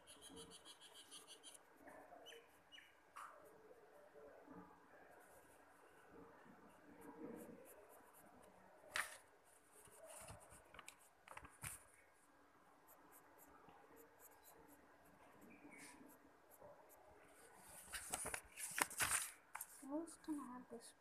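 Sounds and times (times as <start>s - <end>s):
pencil scratching on paper: 0.0s - 11.9s, 12.8s - 18.5s.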